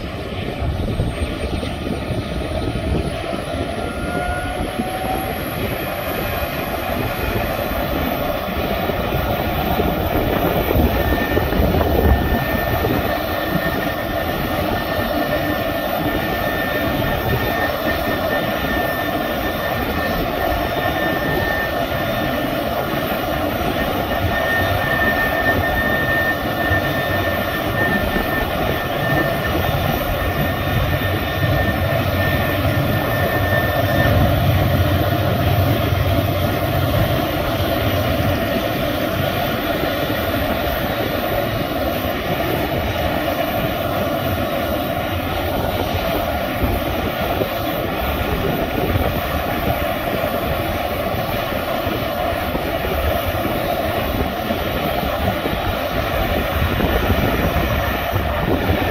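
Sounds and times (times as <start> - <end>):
jet engine roar: 0.0 - 58.9.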